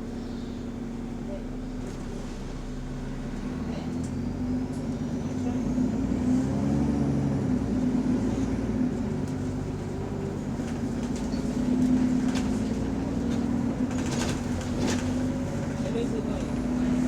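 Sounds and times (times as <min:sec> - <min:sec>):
diesel bus engine droning: 0:00.0 - 0:17.0.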